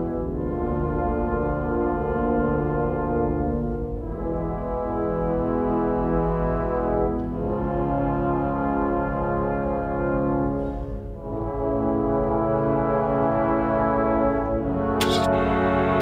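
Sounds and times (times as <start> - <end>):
brass music slow chords: 0.0 - 16.0.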